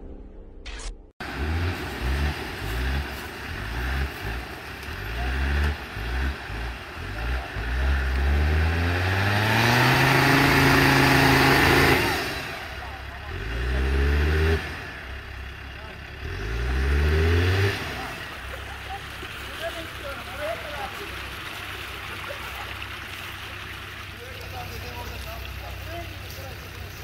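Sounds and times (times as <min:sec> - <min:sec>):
off-road engine revving: 0:01.2 - 0:27.0.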